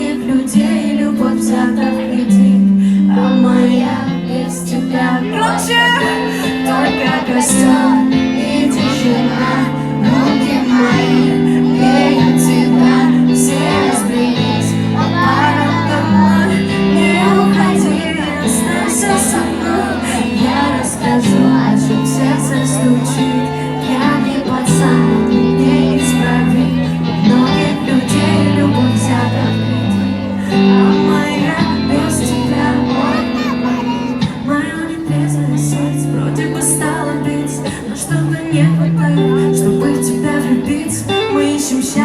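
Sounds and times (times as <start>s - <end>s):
pop song over sound system: 0.0s - 42.0s.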